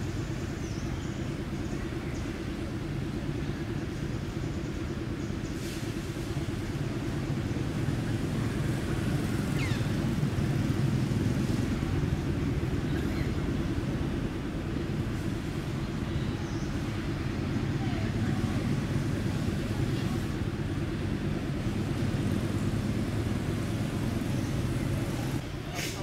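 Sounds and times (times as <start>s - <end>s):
steady low rumble: 0.0s - 25.7s.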